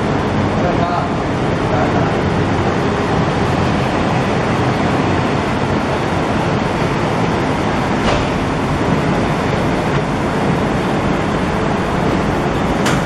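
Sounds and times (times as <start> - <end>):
printing machinery rumble and hiss: 0.0 - 13.0.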